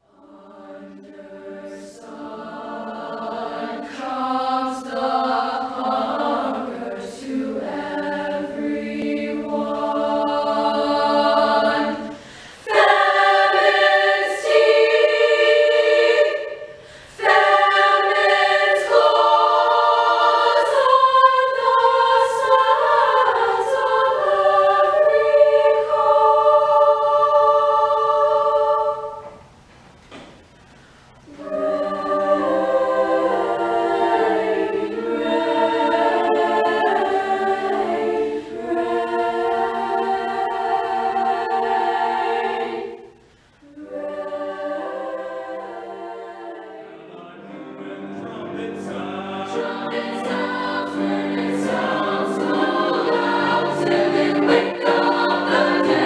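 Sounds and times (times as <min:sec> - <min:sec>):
school chorus singing in harmony: 0:00.0 - 0:29.5, 0:31.2 - 0:56.0.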